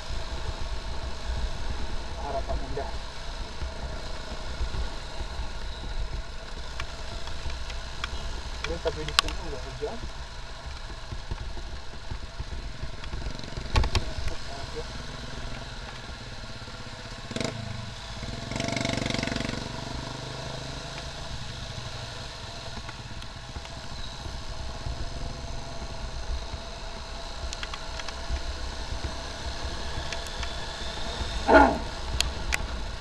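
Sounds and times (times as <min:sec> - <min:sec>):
motorcycle engine running: 0:00.0 - 0:33.0
rush of wet road: 0:00.0 - 0:33.0.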